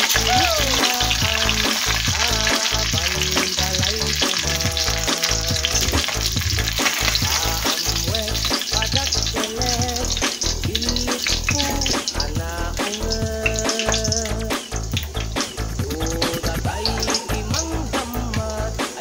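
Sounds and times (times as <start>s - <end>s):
background music: 0.0s - 19.0s
fish sizzling in hot oil: 0.0s - 19.0s.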